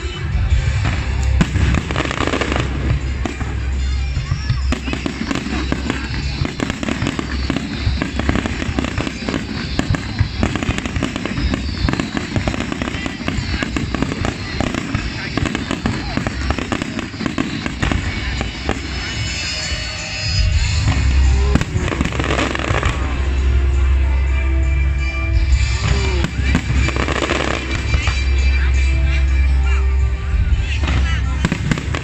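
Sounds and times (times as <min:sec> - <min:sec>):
fireworks bangs and crackling: 0:00.0 - 0:32.0
heavy low booms: 0:00.0 - 0:32.0.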